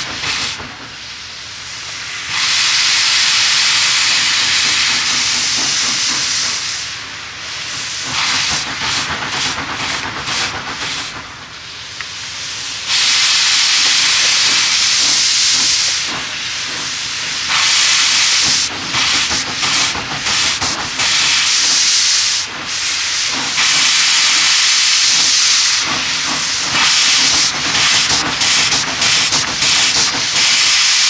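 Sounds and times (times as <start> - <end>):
steam hissing from locomotive: 0.0 - 31.0.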